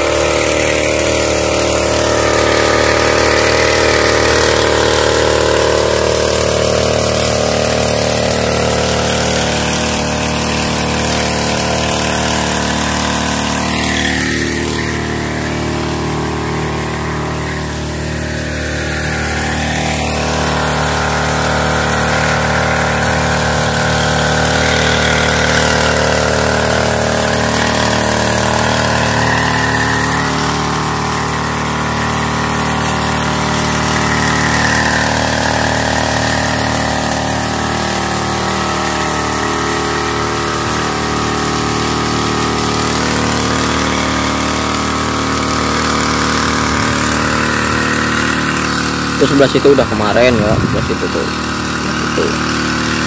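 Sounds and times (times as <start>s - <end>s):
sprayer engine running: 0.0s - 53.0s.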